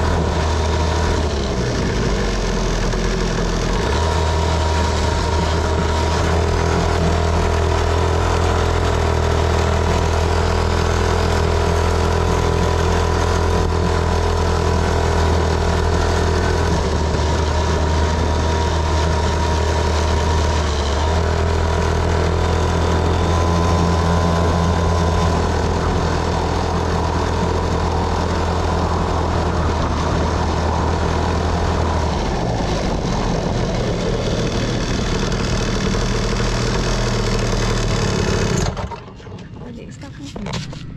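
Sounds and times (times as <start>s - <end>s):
dirt bike engine running: 0.0s - 38.8s.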